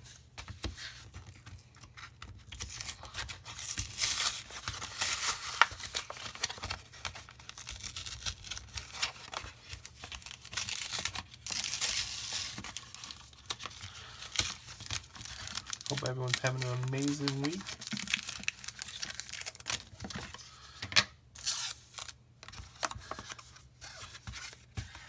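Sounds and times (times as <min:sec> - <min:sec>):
packaging crackling and tearing: 0:02.5 - 0:20.4, 0:21.4 - 0:24.6.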